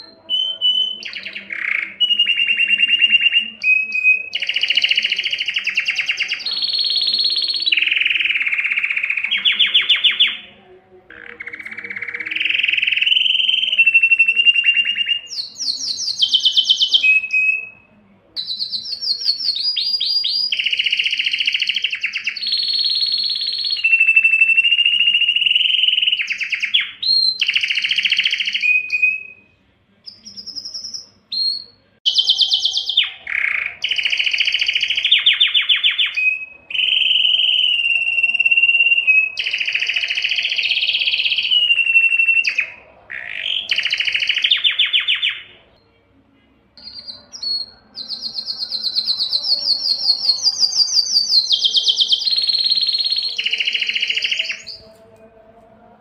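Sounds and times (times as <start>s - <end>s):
canary singing trills: 0.0s - 46.1s, 46.8s - 55.2s.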